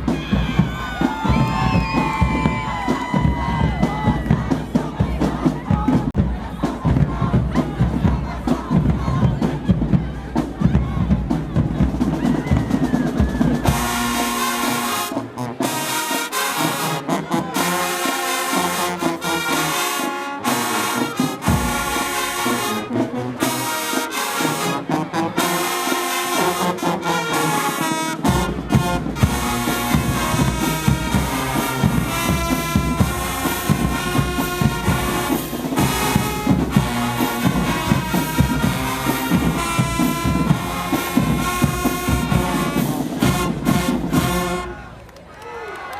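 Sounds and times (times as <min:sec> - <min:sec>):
marching band horns playing: 0:00.0 - 0:45.1.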